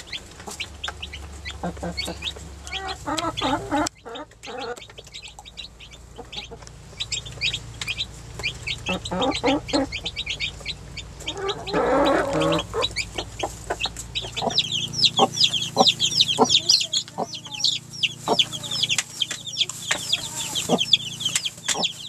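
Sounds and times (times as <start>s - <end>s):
baby chicks peeping: 0.0s - 22.0s
hen clucking: 0.0s - 22.0s.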